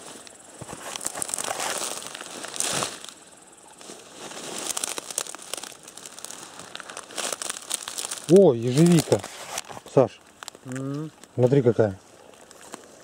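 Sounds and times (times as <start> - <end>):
brush rustling and snapping underfoot: 0.0 - 11.5, 12.1 - 13.0.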